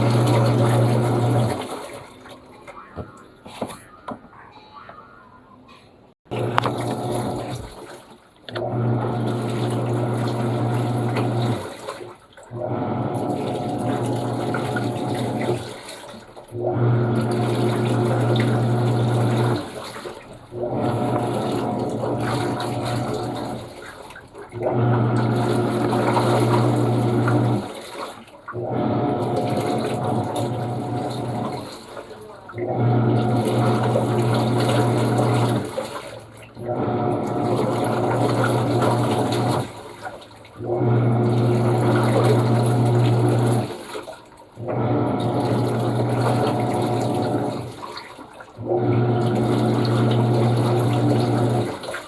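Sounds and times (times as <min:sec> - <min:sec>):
washing machine motor churning: 0:00.0 - 0:04.4, 0:06.2 - 0:52.0
water sloshing: 0:00.0 - 0:04.4, 0:06.2 - 0:52.0
washing machine hum: 0:00.0 - 0:52.0.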